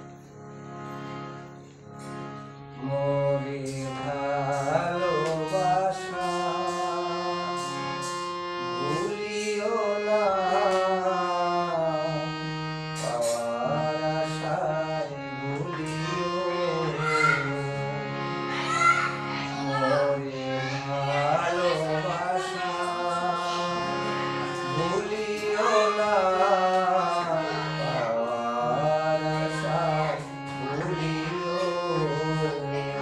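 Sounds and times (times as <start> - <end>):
harmonium playing chords: 0.0 - 33.0
man singing: 2.8 - 18.5, 19.7 - 33.0.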